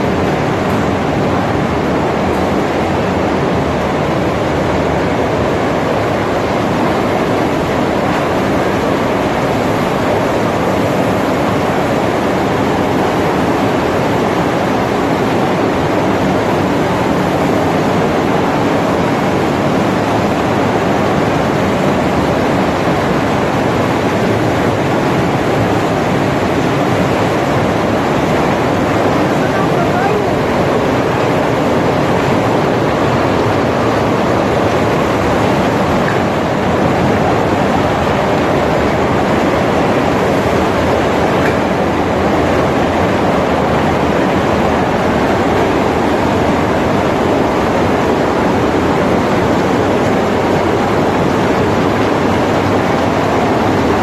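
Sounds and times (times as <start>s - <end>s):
processing machinery and churning water: 0.0s - 54.0s.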